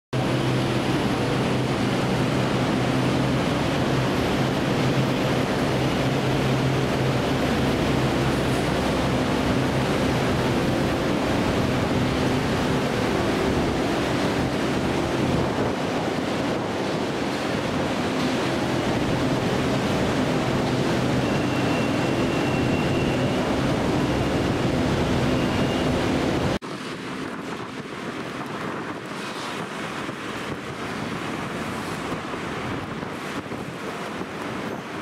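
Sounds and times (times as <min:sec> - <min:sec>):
city background: 0:00.1 - 0:35.0
wind on microphone: 0:00.2 - 0:35.0.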